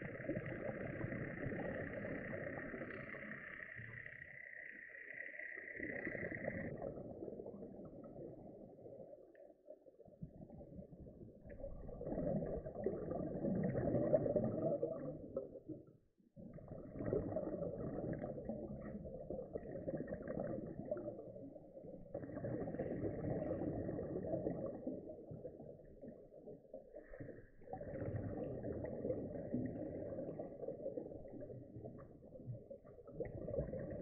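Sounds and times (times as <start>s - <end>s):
exhaled bubbles underwater: 0.0s - 34.0s.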